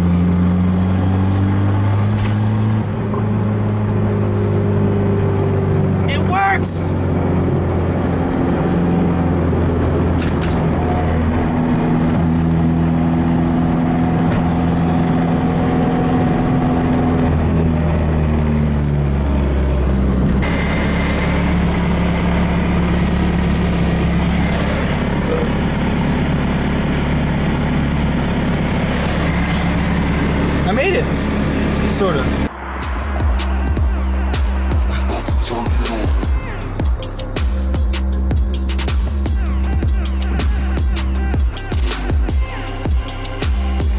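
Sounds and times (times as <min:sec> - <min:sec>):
car engine running: 0:00.0 - 0:43.9
road drone: 0:00.0 - 0:43.9.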